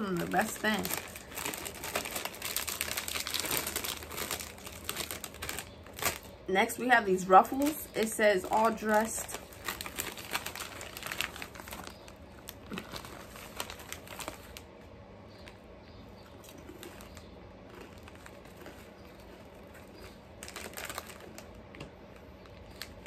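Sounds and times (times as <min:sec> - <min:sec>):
chip bag crinkling: 0:00.0 - 0:15.6, 0:16.2 - 0:23.0.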